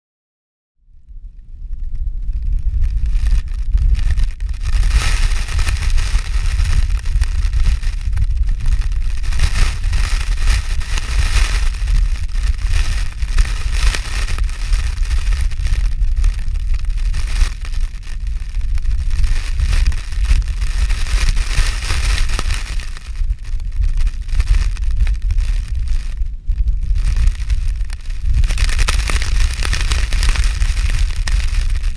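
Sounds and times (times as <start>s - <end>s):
wind buffeting microphone: 0.9s - 31.9s.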